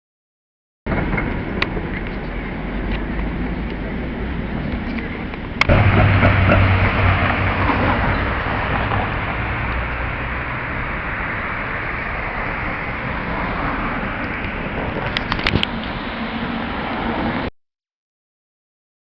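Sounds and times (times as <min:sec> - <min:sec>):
street traffic engine hum: 0:00.9 - 0:17.5.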